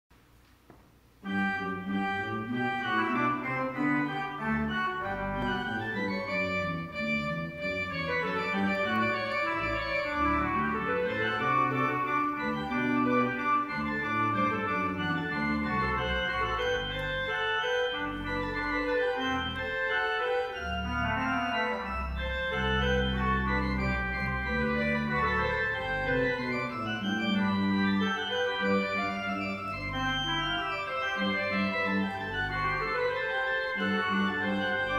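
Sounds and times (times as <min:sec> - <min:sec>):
church organ chords: 0:01.2 - 0:34.9.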